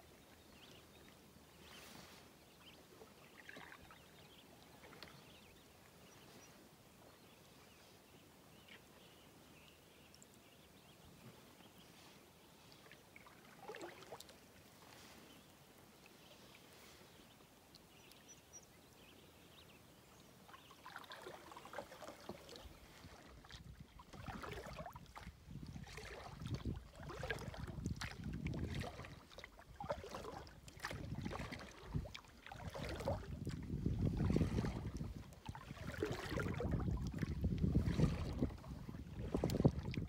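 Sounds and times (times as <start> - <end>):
paddle strokes in water: 0.0 - 19.3, 20.2 - 40.0.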